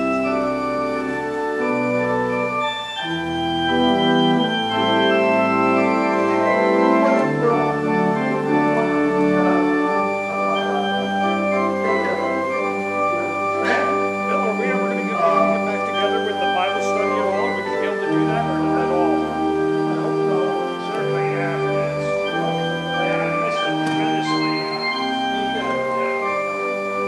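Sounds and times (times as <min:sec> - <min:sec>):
church organ playing: 0:00.0 - 0:27.0.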